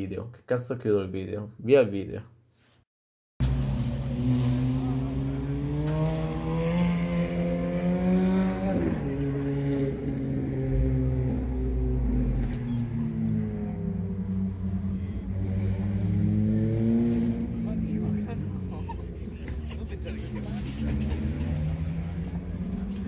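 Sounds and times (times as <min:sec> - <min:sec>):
sports car engine accelerating: 0:03.4 - 0:23.0.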